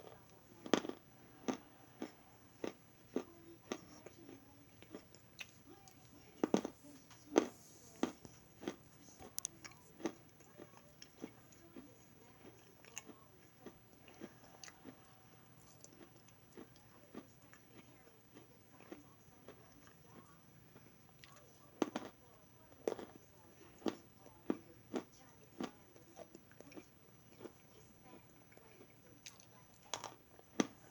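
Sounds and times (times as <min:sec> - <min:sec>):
crunchy food being chewed: 0:00.0 - 0:30.9.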